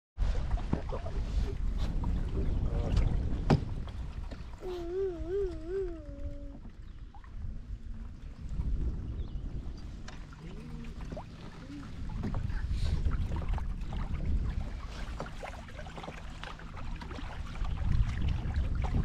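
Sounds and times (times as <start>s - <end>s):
small waves lapping against canoe: 0.2s - 19.0s
wind rumble on microphone: 0.2s - 19.0s.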